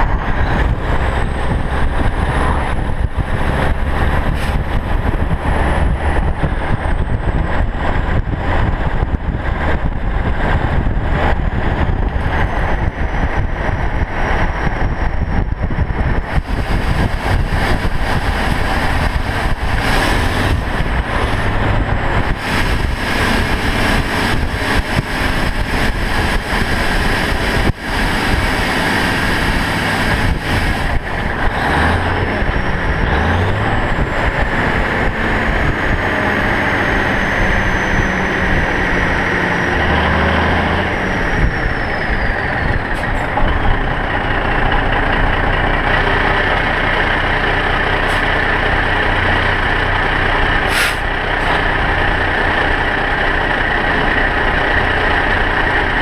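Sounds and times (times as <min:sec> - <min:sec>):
wind buffeting microphone: 0:00.0 - 0:46.3
lorry diesel engine: 0:00.0 - 0:56.0.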